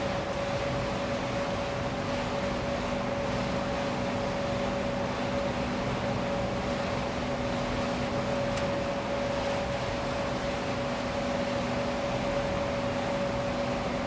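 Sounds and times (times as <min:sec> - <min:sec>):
boat machinery drone: 0:00.0 - 0:14.0.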